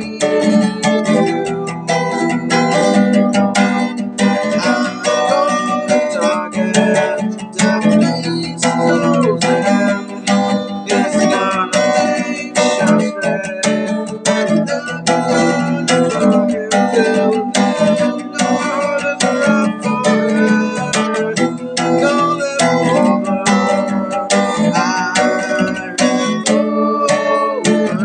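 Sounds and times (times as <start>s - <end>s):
acoustic guitar strumming: 0.0s - 28.0s
man singing: 0.0s - 28.0s.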